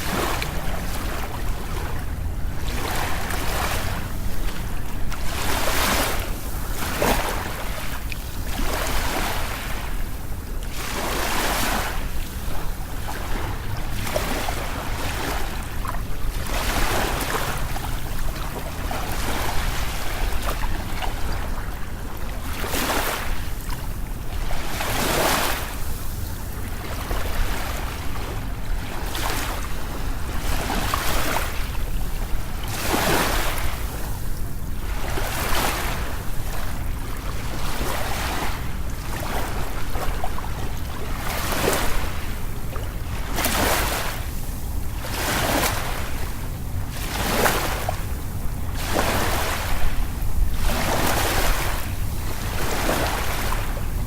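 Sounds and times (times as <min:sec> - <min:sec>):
low rumble of surf: 0:00.0 - 0:54.0
ocean waves surging: 0:00.0 - 0:54.0.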